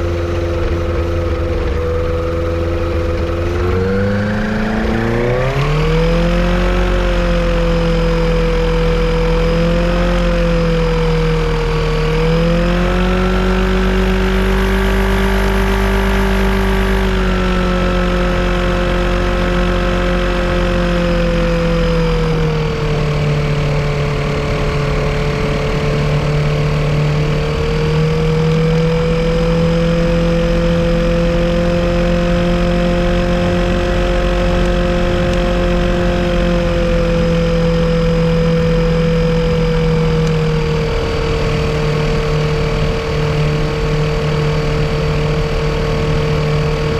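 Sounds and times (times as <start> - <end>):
airplane engine running: 0.0 - 46.9.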